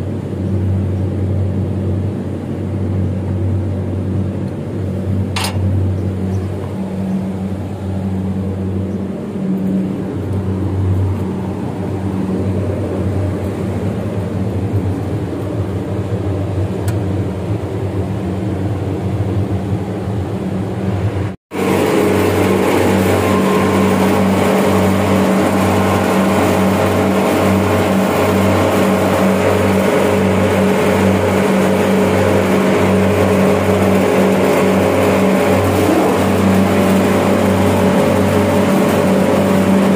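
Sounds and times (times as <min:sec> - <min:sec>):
chiller humming and pulsing: 0:00.0 - 0:39.9.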